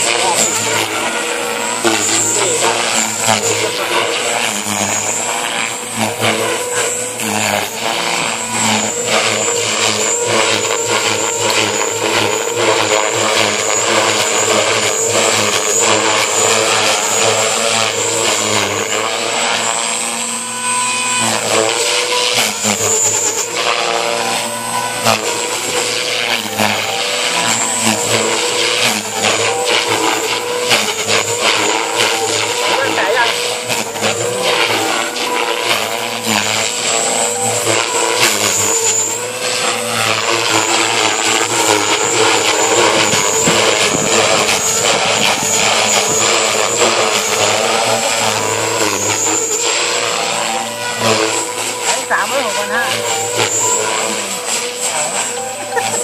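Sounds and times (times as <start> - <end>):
model helicopter rotor whine: 0.0 - 56.0.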